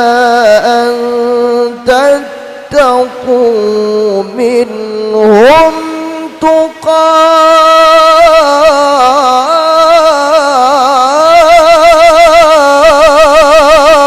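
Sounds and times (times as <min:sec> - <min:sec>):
high voice reciting melodically: 0:00.0 - 0:14.0.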